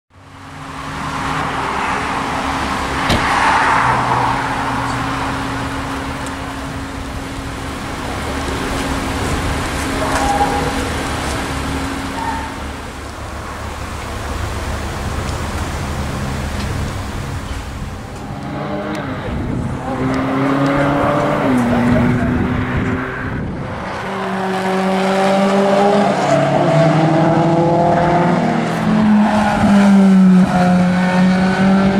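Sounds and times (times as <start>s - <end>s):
traffic noise: 0.1s - 31.9s.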